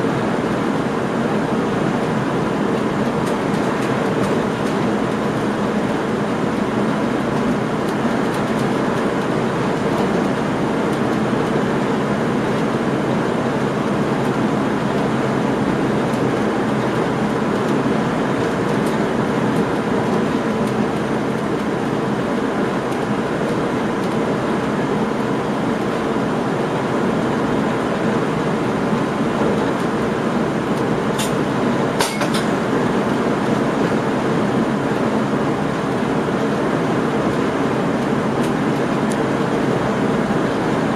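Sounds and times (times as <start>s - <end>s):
train rumbling along rails: 0.0s - 40.9s.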